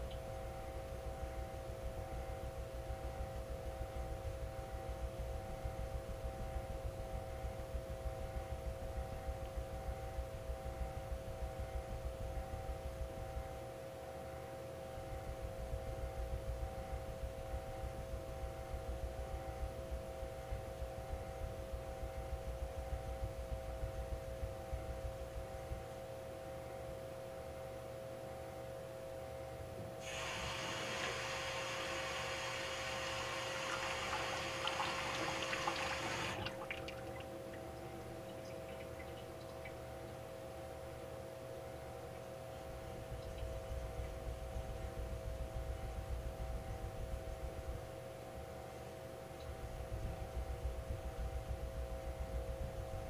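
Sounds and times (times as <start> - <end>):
steady multi-tone hum: 0.0 - 53.0.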